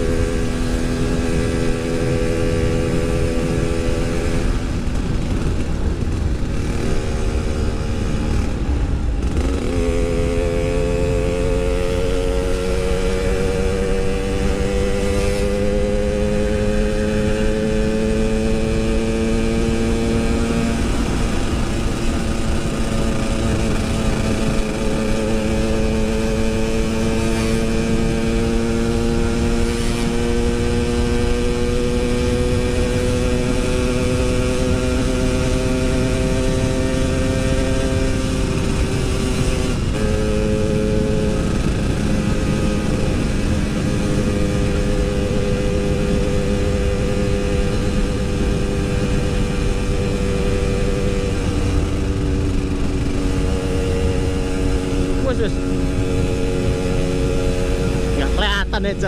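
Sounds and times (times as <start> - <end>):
low wind rumble: 0.0 - 59.0
motorcycle engine running: 0.0 - 59.0.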